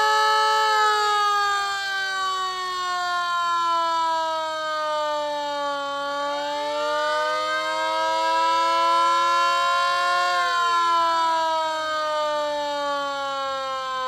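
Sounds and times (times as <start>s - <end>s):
mini fire-truck siren: 0.0s - 14.0s
siren wailing: 0.0s - 14.0s.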